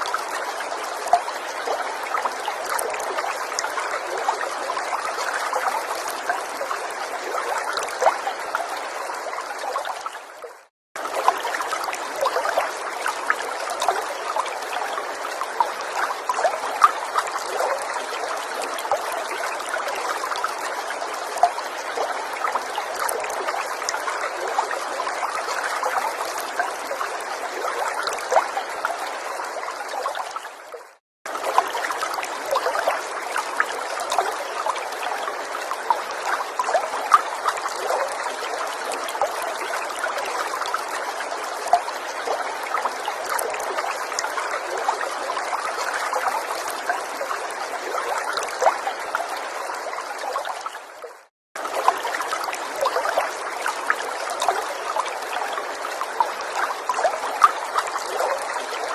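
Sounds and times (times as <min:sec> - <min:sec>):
stream trickling and splashing: 0:00.0 - 0:58.9.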